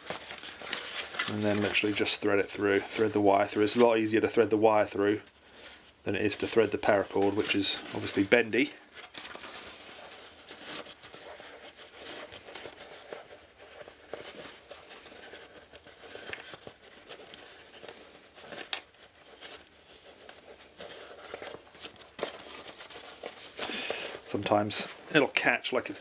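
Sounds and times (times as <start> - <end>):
canvas rustling and crinkling: 0.0 - 26.0.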